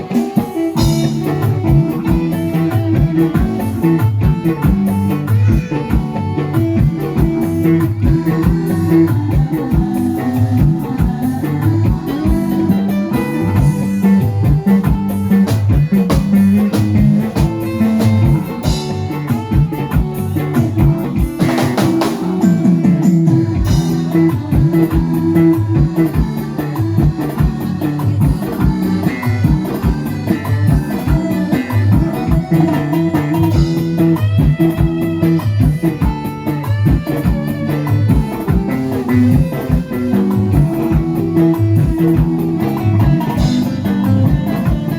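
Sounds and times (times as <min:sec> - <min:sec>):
band music over sound system: 0:00.0 - 0:44.9.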